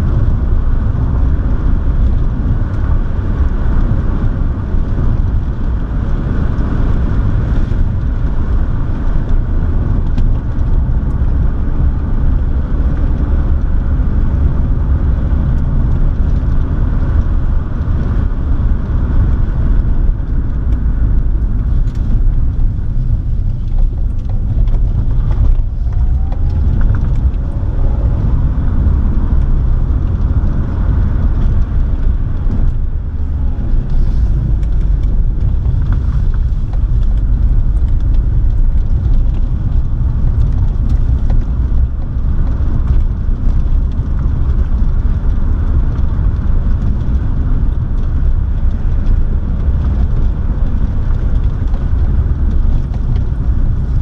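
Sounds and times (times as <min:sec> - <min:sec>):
car engine: 0:00.0 - 0:54.0
tyres rumbling on road: 0:00.0 - 0:54.0.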